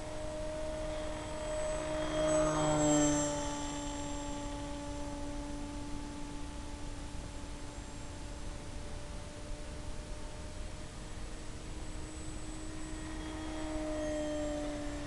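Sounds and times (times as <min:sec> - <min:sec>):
electric motor and propeller whine: 0:00.0 - 0:15.0.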